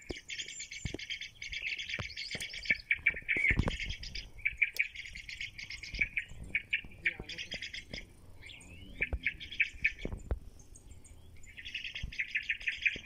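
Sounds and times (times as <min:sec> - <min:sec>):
many small birds chirping: 0:00.0 - 0:13.0.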